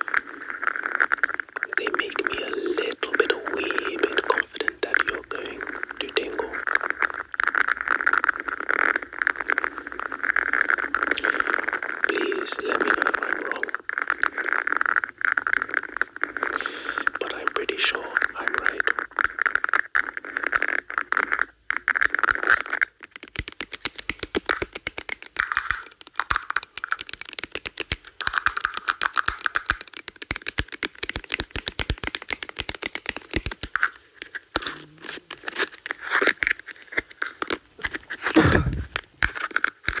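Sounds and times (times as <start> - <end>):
cups crinkling tapping and scratching: 0.0 - 17.4, 18.1 - 40.0.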